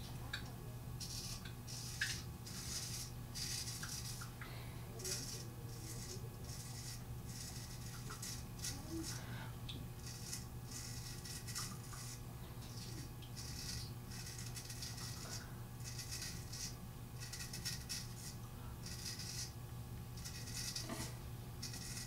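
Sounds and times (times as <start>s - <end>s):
low steady hum: 0.0s - 22.0s
razor scraping stubble: 1.0s - 4.4s, 5.0s - 9.3s, 10.0s - 19.6s, 20.2s - 22.0s.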